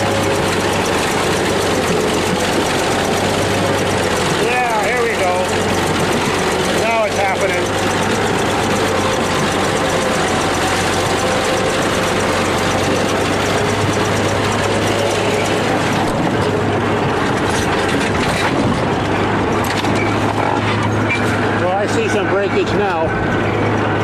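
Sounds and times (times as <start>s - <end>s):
bulldozer engine running: 0.0s - 24.0s.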